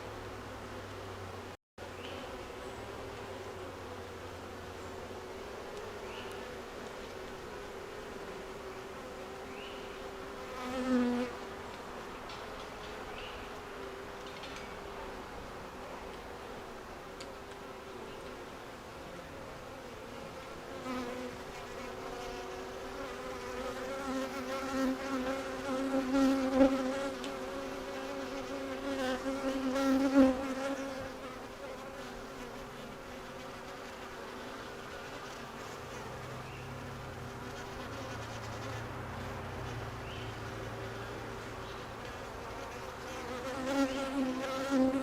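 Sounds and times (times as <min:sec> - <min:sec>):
honey bees buzzing: 0:00.0 - 0:45.0.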